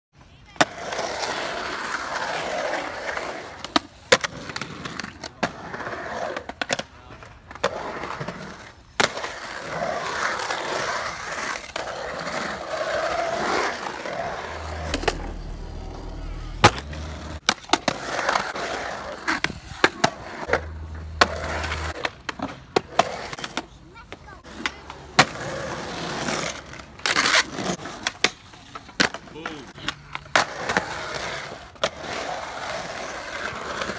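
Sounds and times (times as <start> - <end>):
skateboard wheels rolling on concrete: 0.1 - 33.9
skateboard clacking on concrete: 0.4 - 15.1, 16.6 - 33.9.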